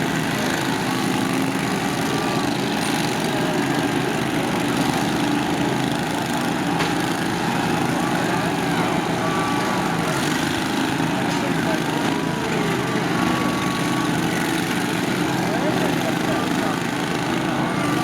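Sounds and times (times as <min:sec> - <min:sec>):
lawn mower engines running: 0:00.0 - 0:18.0.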